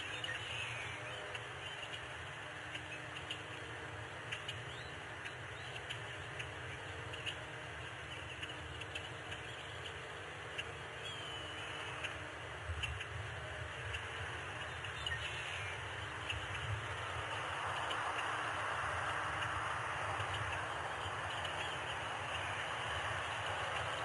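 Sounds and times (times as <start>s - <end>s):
faint bird chirps: 0.0s - 24.0s
gliding bird call: 0.0s - 24.0s
outdoor background noise: 0.0s - 24.0s.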